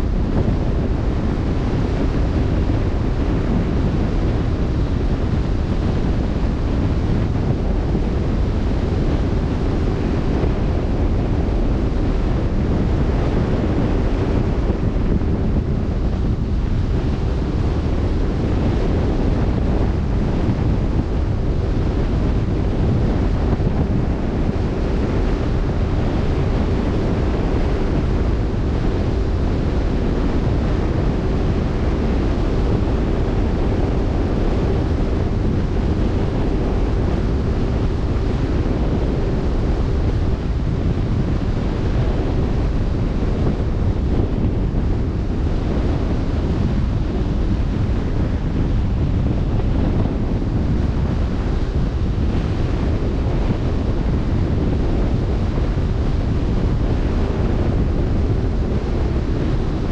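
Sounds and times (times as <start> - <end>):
faint steady hum: 0.0 - 59.9
wind across microphone: 0.0 - 59.9.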